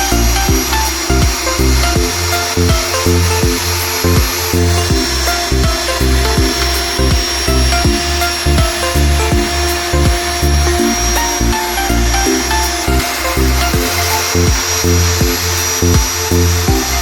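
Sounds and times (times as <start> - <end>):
music with steady beat and bass: 0.0 - 17.0.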